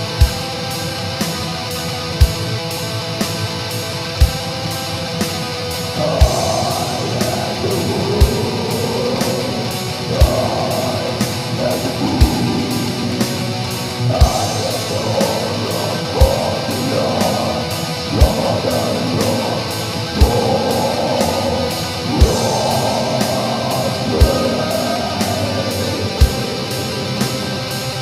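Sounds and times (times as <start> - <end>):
distorted electric guitars: 0.0 - 28.0.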